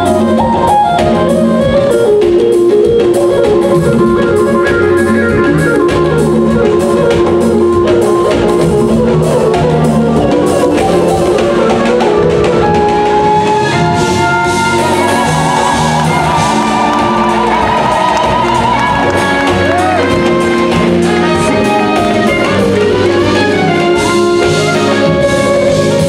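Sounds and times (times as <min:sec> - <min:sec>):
jazz fusion band playing: 0:00.0 - 0:26.0.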